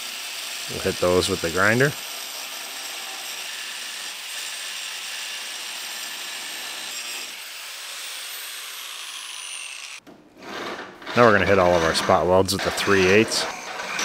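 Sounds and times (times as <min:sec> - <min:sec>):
angle grinder grinding metal: 0:00.0 - 0:14.0.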